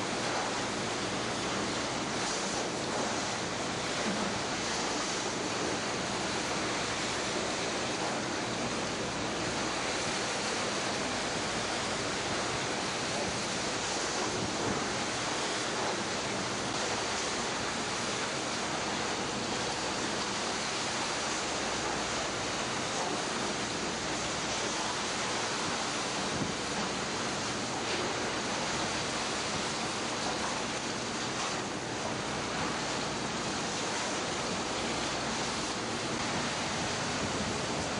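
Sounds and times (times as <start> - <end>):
sea rushing: 0.0 - 37.9
wind: 0.0 - 37.9.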